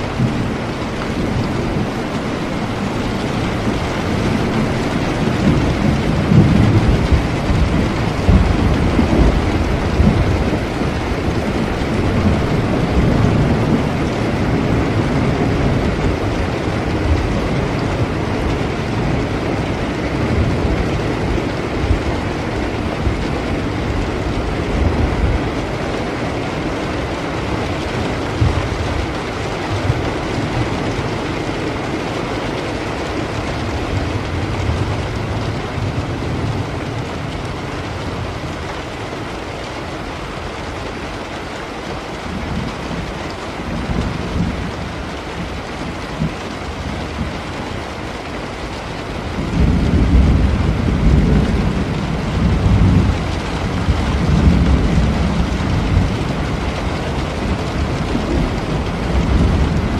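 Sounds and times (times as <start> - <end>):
rolling thunder rumbles: 0.0 - 59.9
steady rain falling: 0.0 - 59.9.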